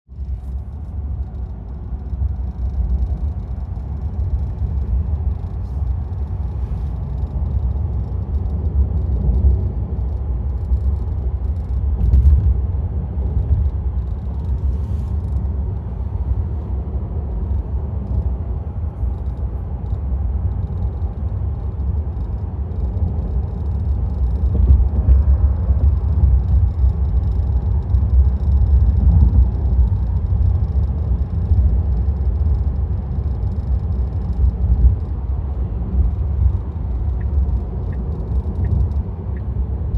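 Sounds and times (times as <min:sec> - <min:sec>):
car rumbling on the move: 0:00.1 - 0:39.9
faint irregular ticking: 0:00.2 - 0:12.0, 0:17.3 - 0:39.9.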